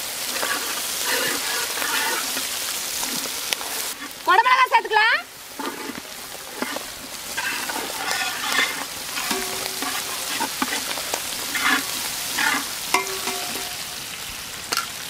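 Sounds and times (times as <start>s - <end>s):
stirring scrapes and knocks: 0.0s - 14.0s
vegetables sizzling in hot oil: 0.0s - 15.0s.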